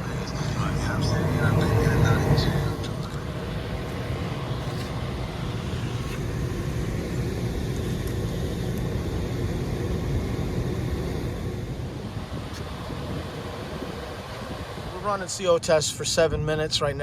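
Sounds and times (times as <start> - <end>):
rooftop heating unit running: 0.0 - 17.0.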